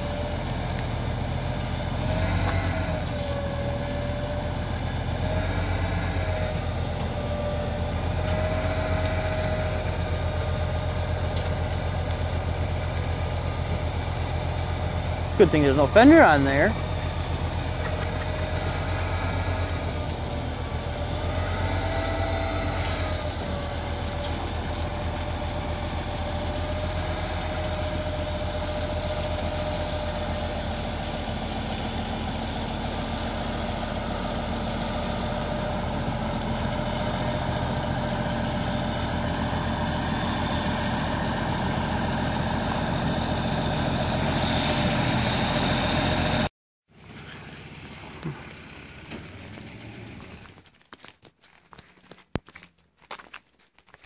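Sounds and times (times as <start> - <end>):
truck engine idling: 0.0 - 50.7.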